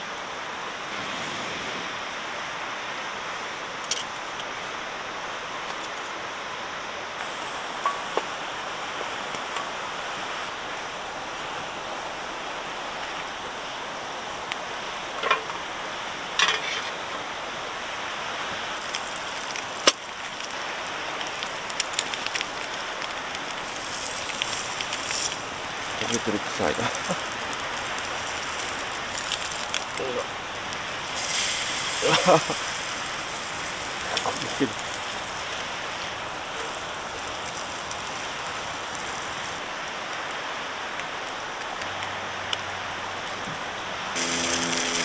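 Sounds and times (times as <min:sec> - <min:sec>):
steady rushing hiss: 0:00.0 - 0:45.0.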